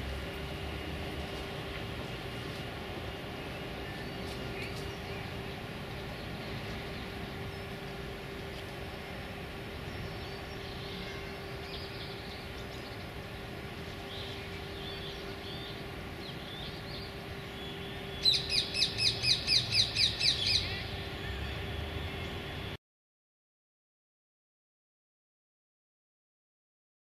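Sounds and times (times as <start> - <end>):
steady background hum: 0.0 - 22.8.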